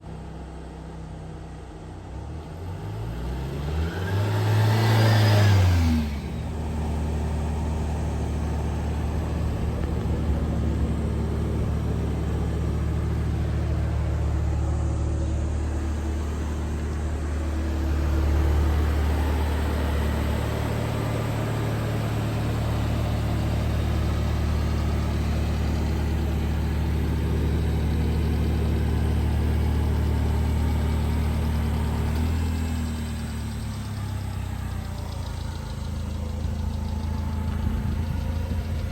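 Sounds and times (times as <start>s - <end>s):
small truck engine revving and idling: 0.0s - 38.9s.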